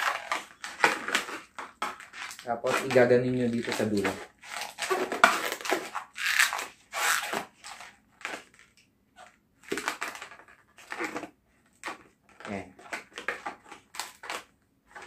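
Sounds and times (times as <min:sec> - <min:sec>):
balloons rubbing and squeaking: 0:00.0 - 0:08.6, 0:09.2 - 0:15.0.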